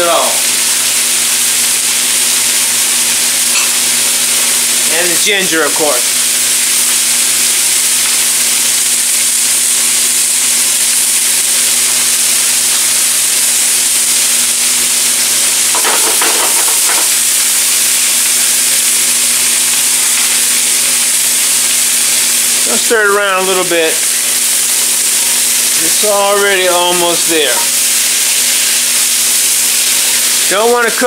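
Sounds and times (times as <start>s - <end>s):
vegetables sizzling in a frying pan: 0.0s - 31.0s.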